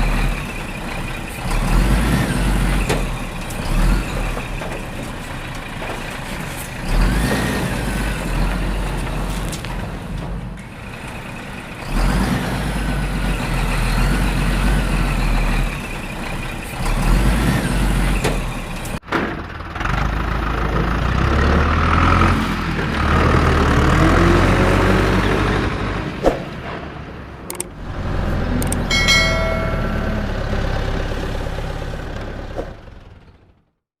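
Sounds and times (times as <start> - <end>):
vehicle engines revving: 0.0 - 19.0, 19.7 - 33.4.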